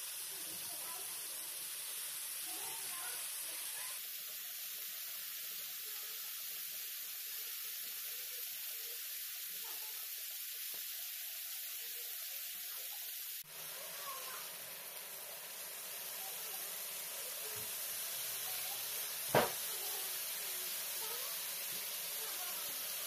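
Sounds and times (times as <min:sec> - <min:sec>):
chicken sizzling on grill pan: 0:00.0 - 0:23.0.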